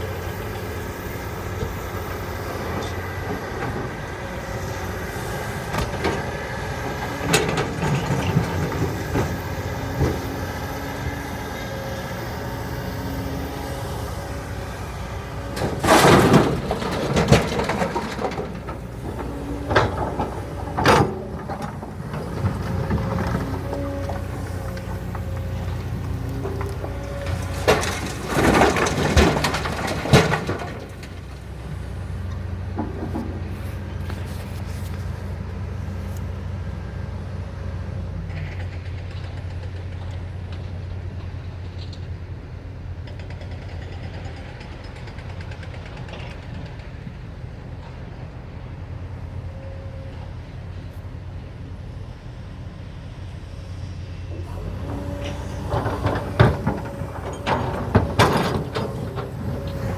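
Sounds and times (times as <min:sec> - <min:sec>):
heavy diesel engines running: 0:00.0 - 0:59.9.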